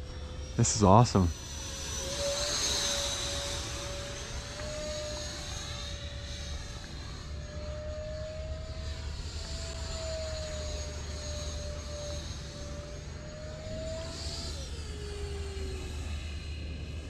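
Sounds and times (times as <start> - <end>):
model jet electric motor whine: 0.0 - 17.0.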